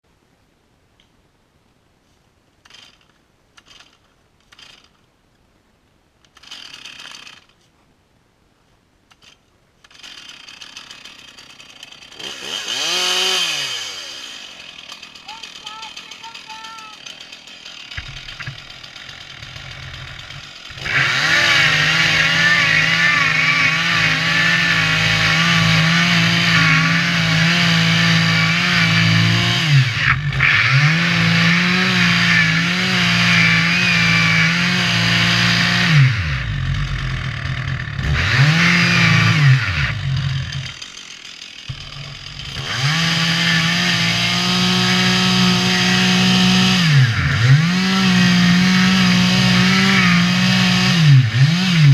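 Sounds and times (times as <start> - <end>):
chainsaw cutting a tree: 2.7 - 5.0, 6.3 - 7.6, 9.2 - 51.9.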